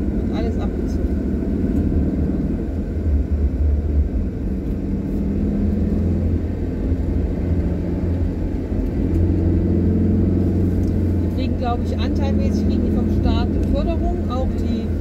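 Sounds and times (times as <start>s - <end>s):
car engine and tyres rumble: 0.0s - 15.0s.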